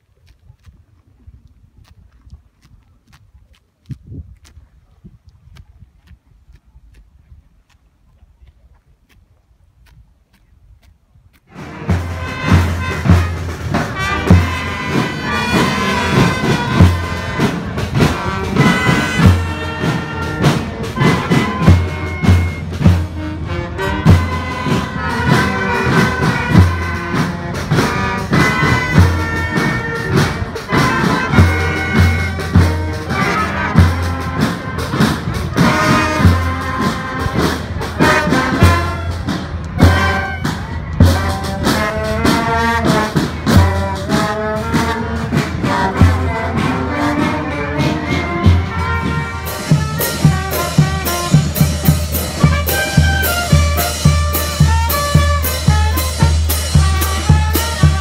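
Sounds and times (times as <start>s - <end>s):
marching band playing a march: 11.5s - 58.0s.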